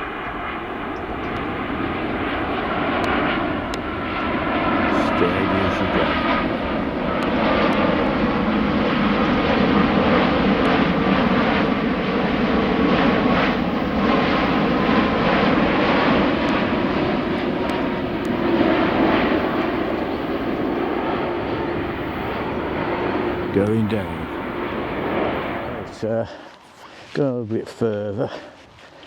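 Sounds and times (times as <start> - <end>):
airliner engines rumbling overhead: 0.0 - 29.0.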